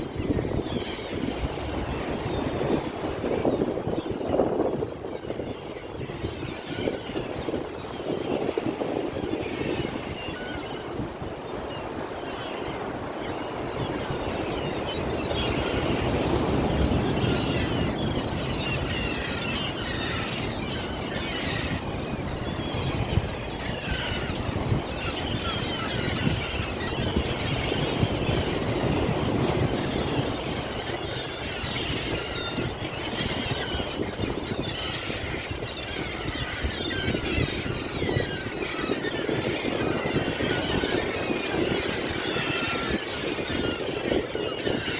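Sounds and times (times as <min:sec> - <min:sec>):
sea waves washing ashore: 0:07.5 - 0:44.4.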